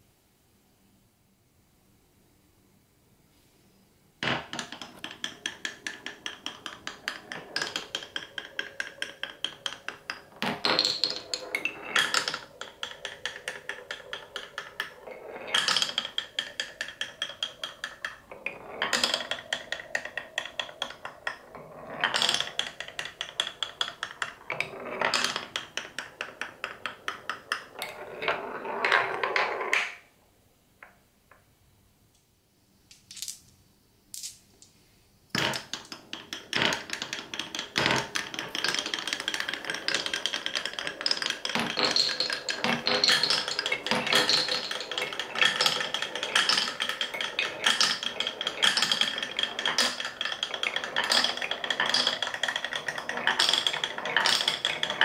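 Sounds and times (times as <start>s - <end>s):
marble rolling rumble: 4.2s - 30.0s, 35.3s - 55.0s
marble clicking down wooden track: 4.2s - 30.1s, 35.3s - 55.0s.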